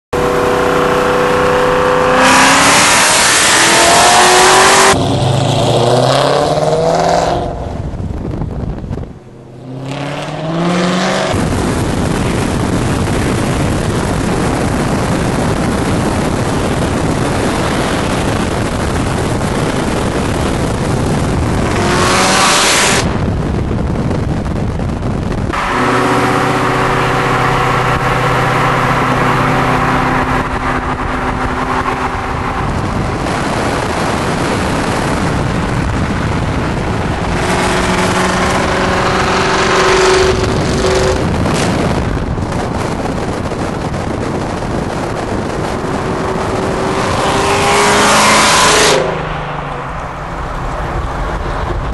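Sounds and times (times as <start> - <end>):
car engine revving: 0.1 - 23.5, 25.2 - 51.9
rushing road noise: 0.1 - 51.9.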